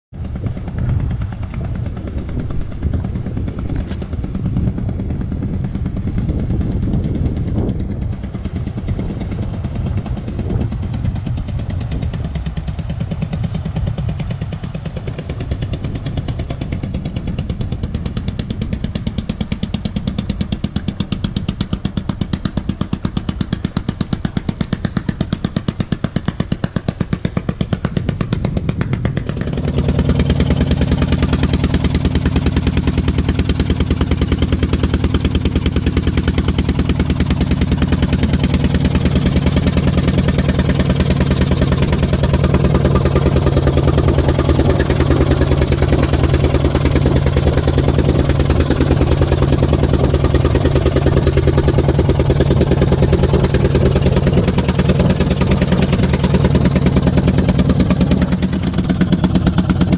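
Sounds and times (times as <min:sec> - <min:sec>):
boat engine putt-putting: 0:00.2 - 0:59.9.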